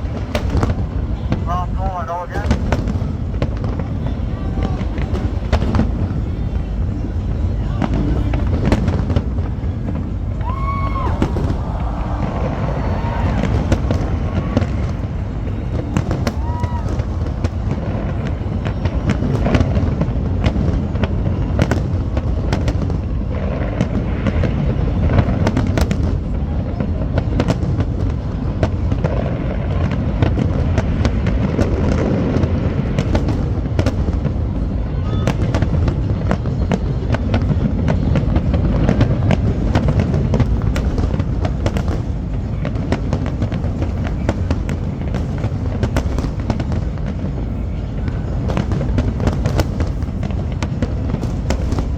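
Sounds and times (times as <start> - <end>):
deep rumble of booms: 0.0 - 51.9
fireworks bangs and crackling: 0.0 - 51.9.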